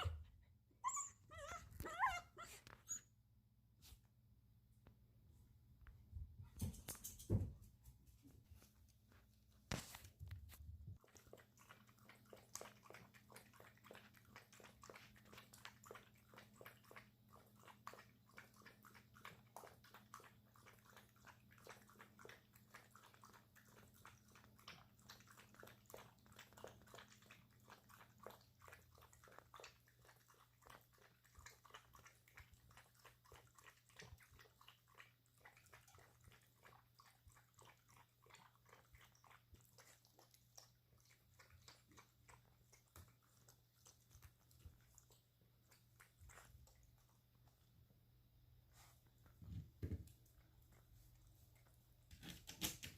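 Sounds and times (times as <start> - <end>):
puppy lapping water: 8.1 - 52.9.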